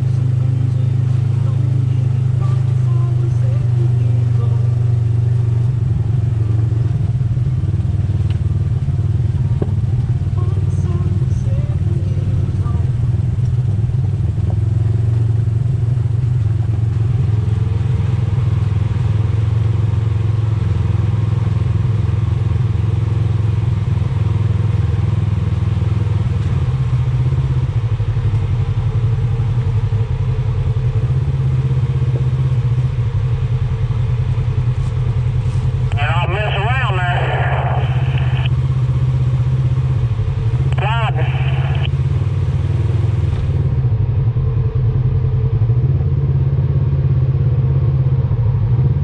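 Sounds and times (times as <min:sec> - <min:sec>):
utility vehicle engine running: 0:00.0 - 0:49.0.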